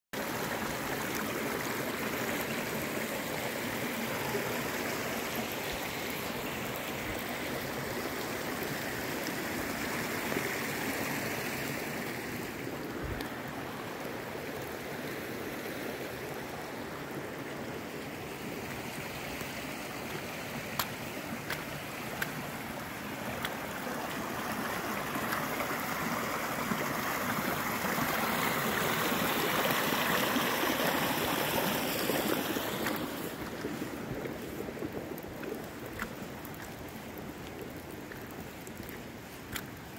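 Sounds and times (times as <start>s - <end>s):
stream rushing over rocks: 0.2s - 39.9s.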